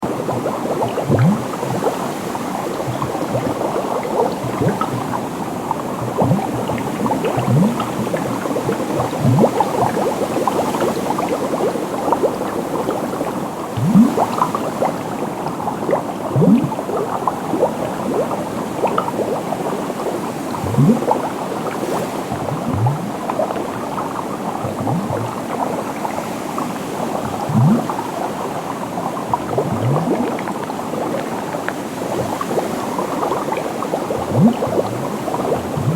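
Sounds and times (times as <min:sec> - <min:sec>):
large bubble gurgling: 0:00.0 - 0:35.9
stream of small bubbles: 0:00.0 - 0:35.9.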